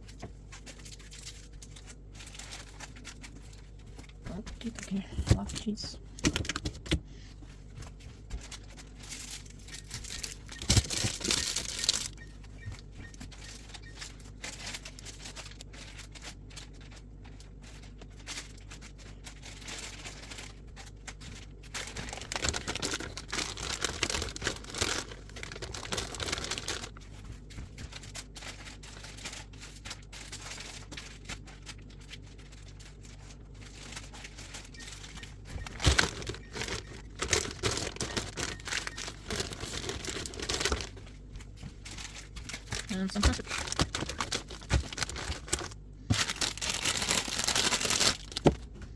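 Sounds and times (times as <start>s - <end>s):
plastic packaging crinkling: 0.0s - 48.9s.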